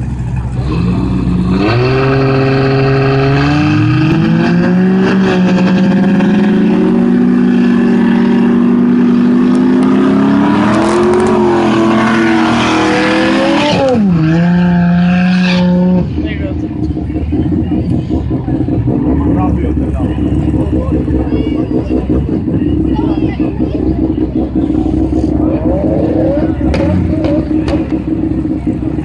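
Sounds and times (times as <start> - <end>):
car engine revving: 0.0 - 29.0
tyres spinning in a burnout: 0.0 - 29.0.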